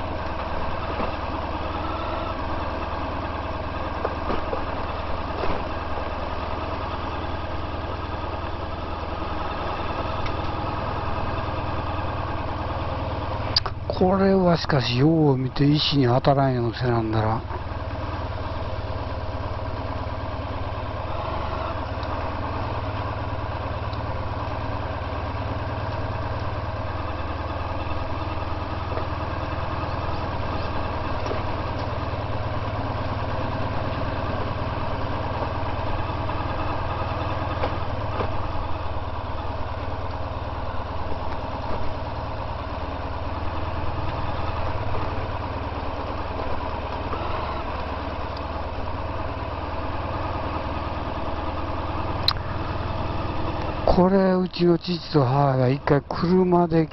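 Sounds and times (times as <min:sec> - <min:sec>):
motorcycle engine running at low revs: 0:00.0 - 0:56.9.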